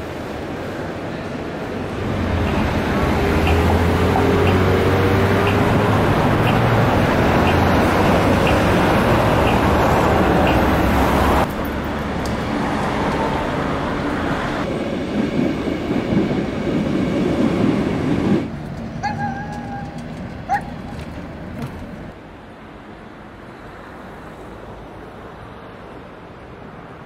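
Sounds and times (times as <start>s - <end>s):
train rumbling: 0.0s - 22.8s.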